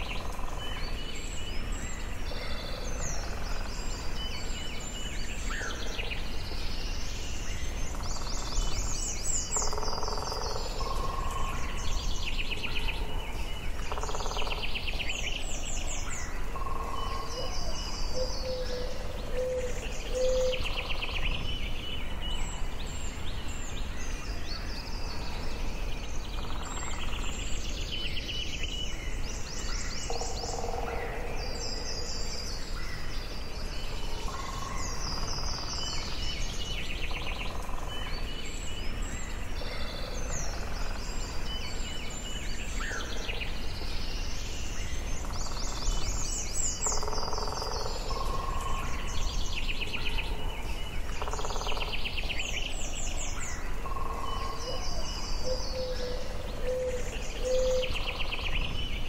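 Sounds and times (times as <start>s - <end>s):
birds singing trills and chirps: 0.0s - 59.0s
steady low background noise: 0.0s - 59.0s.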